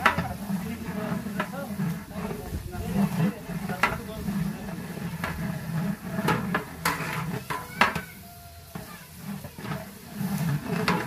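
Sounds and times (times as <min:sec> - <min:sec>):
ladle scraping metal pot: 0:00.0 - 0:11.0.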